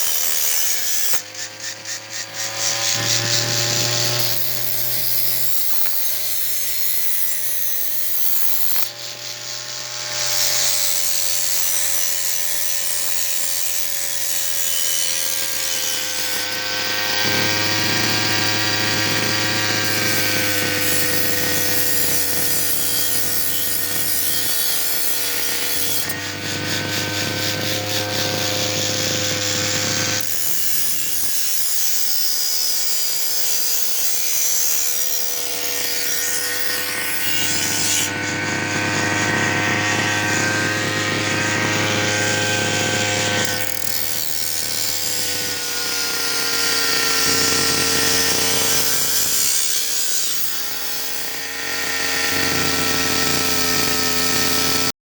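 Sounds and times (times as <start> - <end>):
brush cutter engine cutting grass: 0.0 - 55.0.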